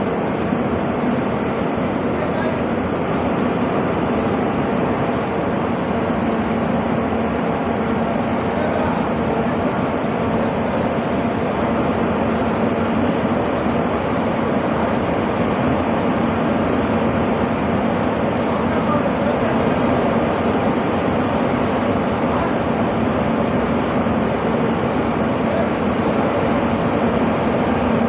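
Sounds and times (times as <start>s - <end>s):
welding arc crackling hiss: 0.0s - 28.0s.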